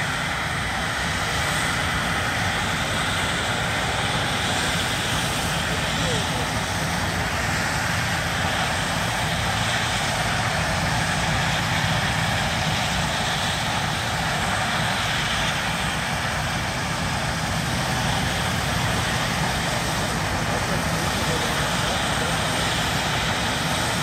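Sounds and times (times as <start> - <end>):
steam exhaust rushing: 0.0 - 24.0.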